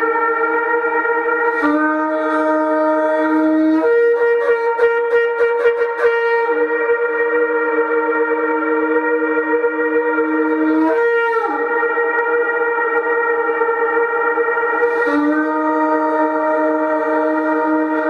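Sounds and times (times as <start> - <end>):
shofar blast: 0.0 - 18.0.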